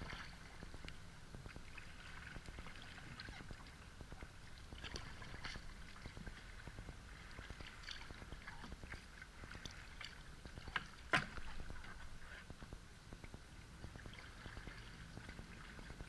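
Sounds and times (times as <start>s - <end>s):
paddle splashing in water: 0.0s - 12.6s, 13.4s - 16.0s.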